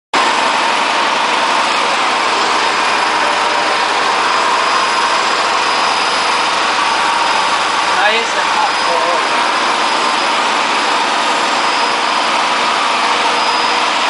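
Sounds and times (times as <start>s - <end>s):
washing machine spinning with whine: 0.2s - 14.0s.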